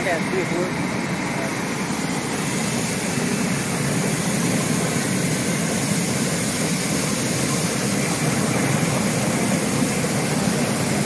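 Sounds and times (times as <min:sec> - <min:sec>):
bubbling churning water: 0:00.0 - 0:11.0.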